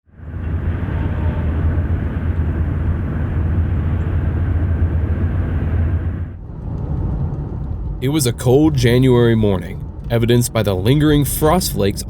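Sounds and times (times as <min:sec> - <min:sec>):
loud low engine rumble: 0:00.0 - 0:12.0.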